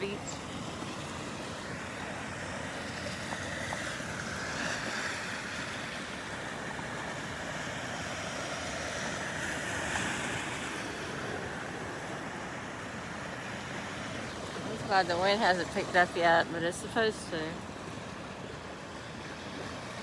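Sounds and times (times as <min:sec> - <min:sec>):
ocean waves breaking on beach: 0:00.0 - 0:20.0.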